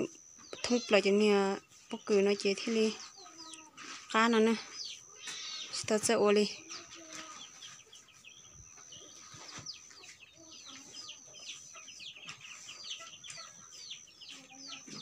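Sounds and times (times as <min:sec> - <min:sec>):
chicks peeping: 0:00.0 - 0:15.0
thin steady high tone: 0:00.0 - 0:15.0.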